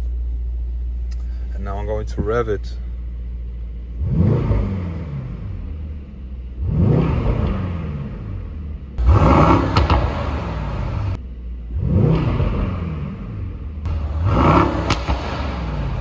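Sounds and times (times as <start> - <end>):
exhaust crack: 0.0 - 16.0
car engine revving: 2.7 - 16.0.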